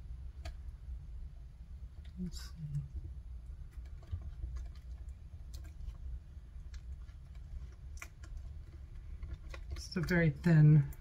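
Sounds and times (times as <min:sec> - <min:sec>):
low steady hum: 0:00.0 - 0:11.0
silicone mold clicks and crackles: 0:00.0 - 0:11.0.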